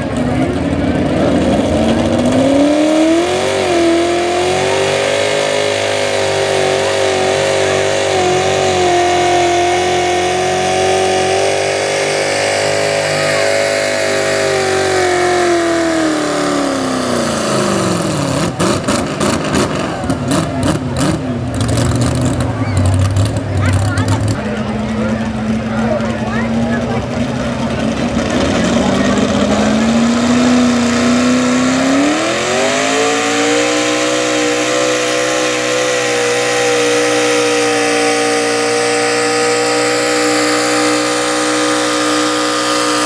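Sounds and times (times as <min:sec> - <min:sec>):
sharp engine crackles: 0:00.0 - 0:43.0
truck engine revving high: 0:00.0 - 0:43.0.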